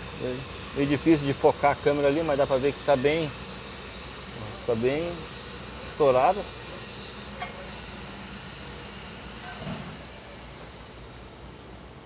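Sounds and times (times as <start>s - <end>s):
workshop background noise: 0.0s - 11.0s.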